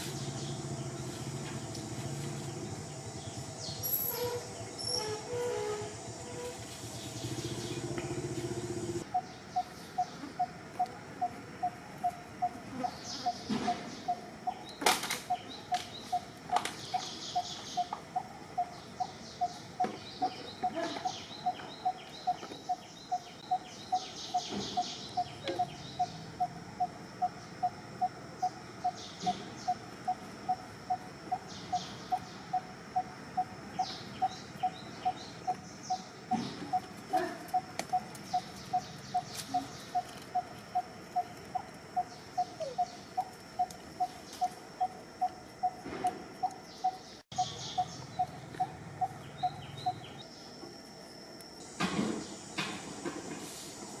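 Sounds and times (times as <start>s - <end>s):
birds chirping: 0.0s - 50.6s.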